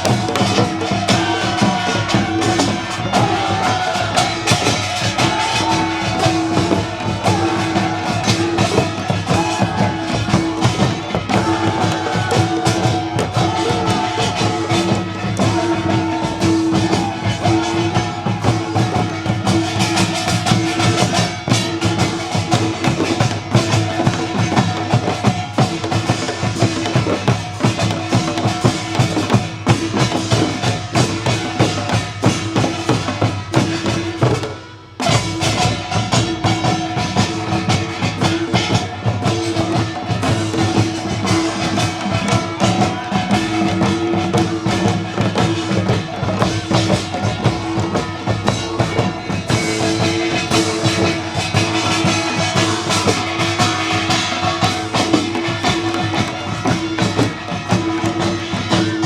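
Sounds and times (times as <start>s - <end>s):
fast drum percussion: 0.0s - 59.0s.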